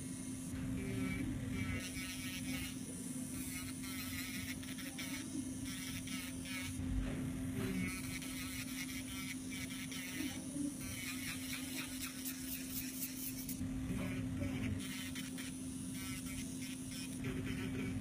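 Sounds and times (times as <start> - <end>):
electric nail drill humming: 0.0 - 18.0.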